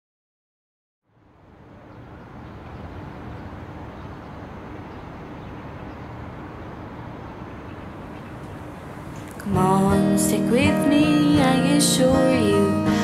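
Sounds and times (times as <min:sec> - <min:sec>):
traffic rumble and hiss: 0:01.1 - 0:13.0.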